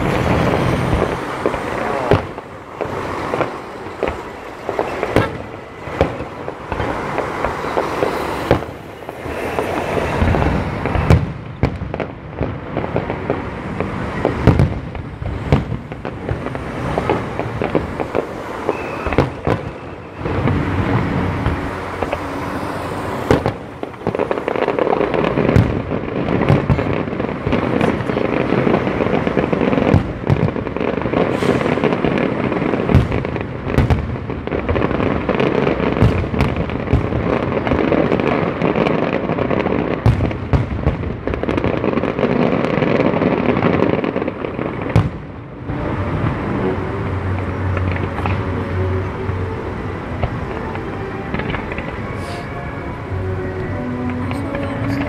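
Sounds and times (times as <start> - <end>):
fireworks bangs: 0.0 - 55.0
fireworks crackle: 0.0 - 55.0.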